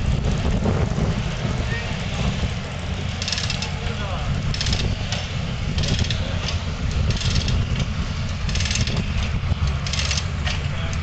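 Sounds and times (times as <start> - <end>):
sawmill mechanical rumble: 0.0 - 11.0.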